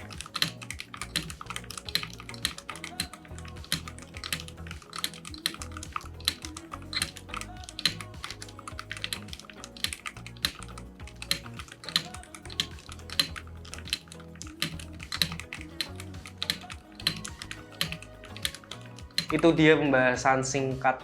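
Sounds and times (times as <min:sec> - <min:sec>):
mechanical keyboard typing: 0:00.0 - 0:19.6
soft background music: 0:00.0 - 0:21.0.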